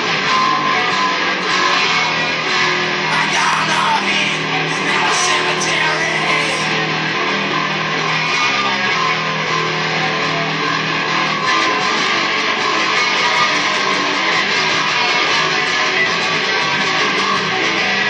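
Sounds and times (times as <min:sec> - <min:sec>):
bass guitar: 0:00.0 - 0:18.0
electric guitar: 0:00.0 - 0:18.0.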